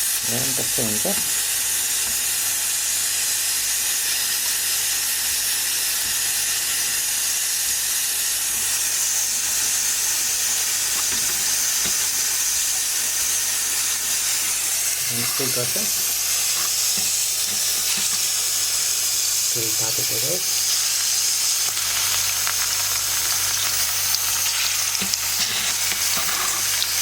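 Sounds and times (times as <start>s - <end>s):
hot oil sizzling in a frying pan: 0.0s - 27.0s.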